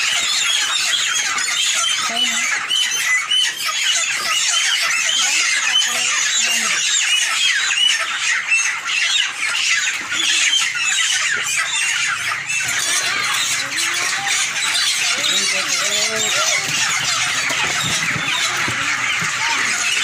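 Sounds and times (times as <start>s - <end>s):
chickens squawking and peeping: 0.0s - 20.0s.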